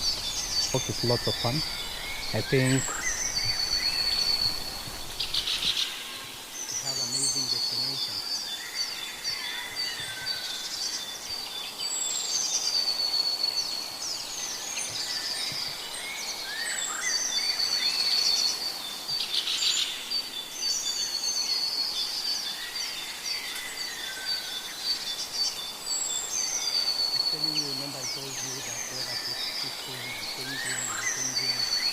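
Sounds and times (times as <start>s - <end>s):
birds trilling: 0.0s - 31.9s.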